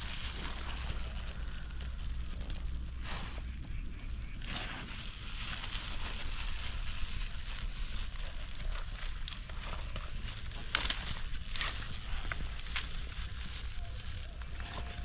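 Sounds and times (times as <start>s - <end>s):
plastic bag rustling: 0.0s - 3.2s, 4.5s - 15.0s
leaves and twigs rustling: 0.0s - 15.0s
steady high-pitched hiss: 0.0s - 15.0s.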